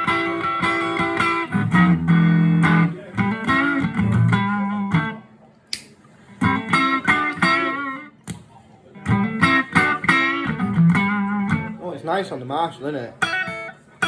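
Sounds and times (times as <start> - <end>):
electric guitar through amplifier: 0.0 - 11.9, 13.1 - 14.0.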